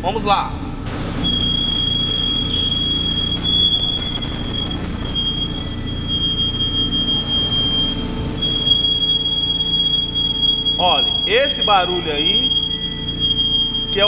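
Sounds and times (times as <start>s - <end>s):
wheel and engine rumble: 0.6s - 14.0s
brake pads squealing: 0.9s - 14.0s.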